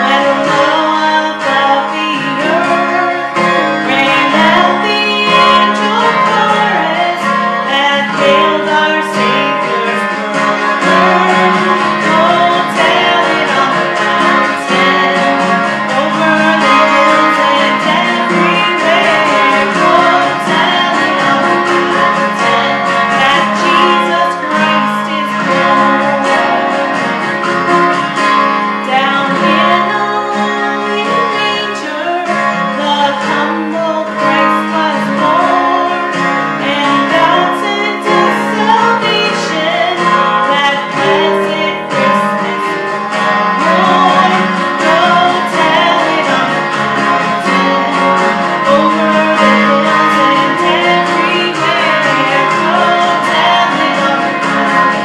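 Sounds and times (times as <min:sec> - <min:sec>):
instrumental accompaniment: 0:00.0 - 0:55.0
woman singing into microphone: 0:00.0 - 0:55.0.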